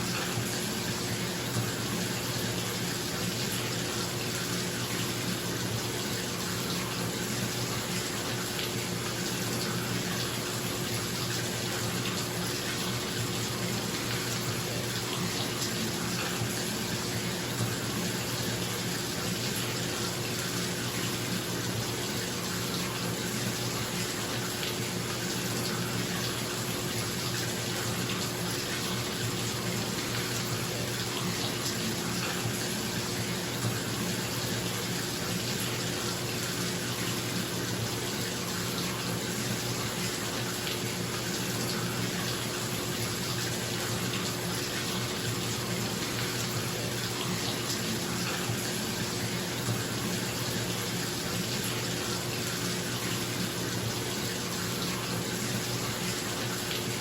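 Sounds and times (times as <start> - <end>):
tap water pouring into tub: 0.0 - 57.0.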